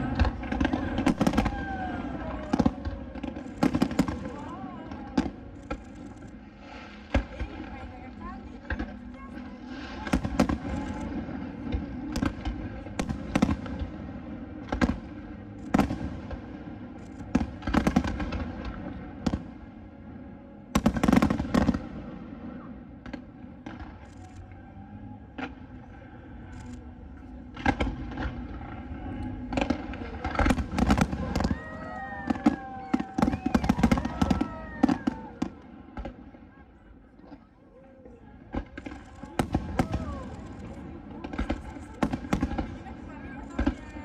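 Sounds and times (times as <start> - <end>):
fireworks bangs and crackles: 0.0 - 24.6, 25.3 - 44.0.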